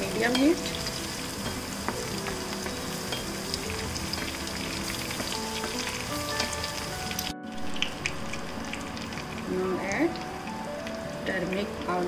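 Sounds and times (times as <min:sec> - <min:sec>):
oil sizzling and crackling in pan: 0:00.0 - 0:12.0.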